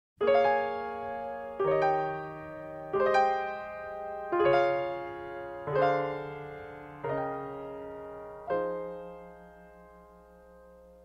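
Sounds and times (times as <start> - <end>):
slow piano chords: 0.2 - 11.0.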